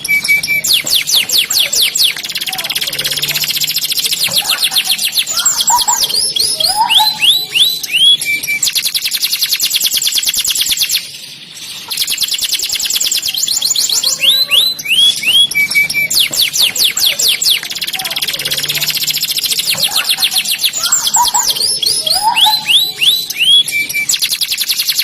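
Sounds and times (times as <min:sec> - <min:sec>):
canary singing: 0:00.0 - 0:25.0.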